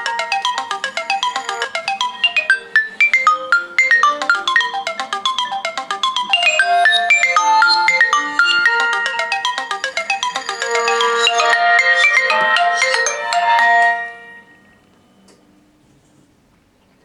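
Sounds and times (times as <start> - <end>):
smartphone ringtones overlapping: 0.0 - 14.8.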